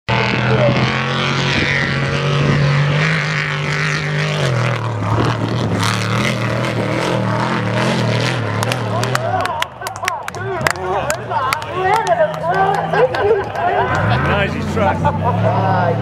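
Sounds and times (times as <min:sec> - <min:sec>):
truck engine running hard: 0:00.1 - 0:16.0.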